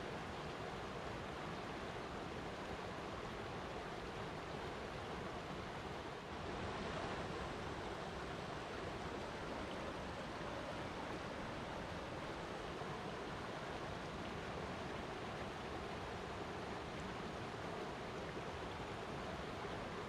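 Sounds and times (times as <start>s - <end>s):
flowing water rushing: 0.0s - 20.0s.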